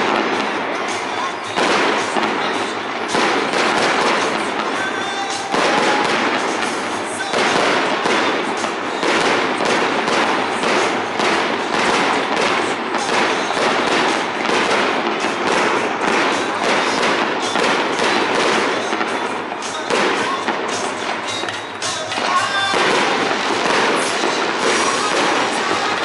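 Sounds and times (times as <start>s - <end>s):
firework crackle: 0.0s - 26.0s
firework shell bursts: 0.0s - 26.0s.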